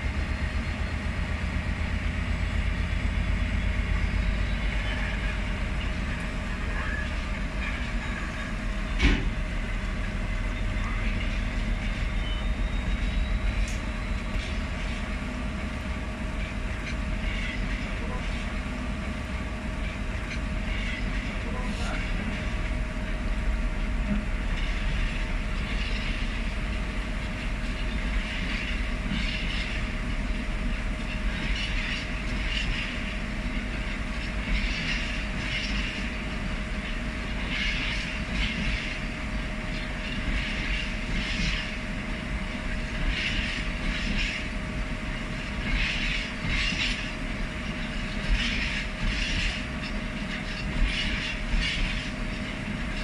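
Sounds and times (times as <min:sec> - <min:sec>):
train wheels clattering over rail joints: 0:00.0 - 0:23.2, 0:24.0 - 0:53.0
train low rumble: 0:00.0 - 0:53.0.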